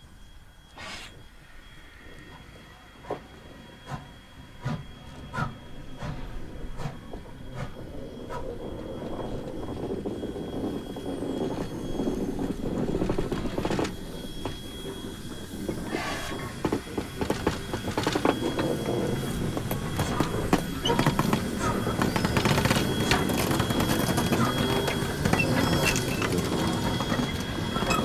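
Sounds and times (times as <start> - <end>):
faint high whine: 0.0 - 28.0
steam locomotive rolling slowly: 0.0 - 28.0.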